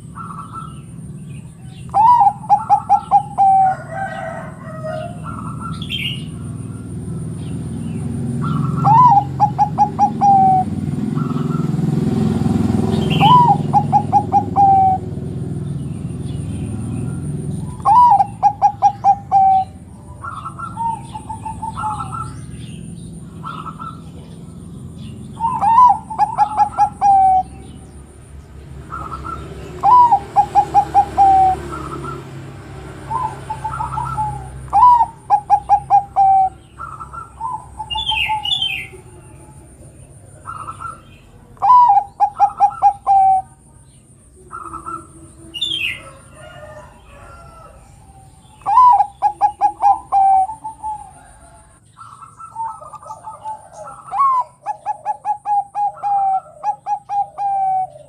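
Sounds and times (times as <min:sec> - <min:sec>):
dove cooing: 0:00.0 - 0:28.2, 0:28.8 - 0:58.0
higher bird chirps: 0:00.0 - 0:58.0.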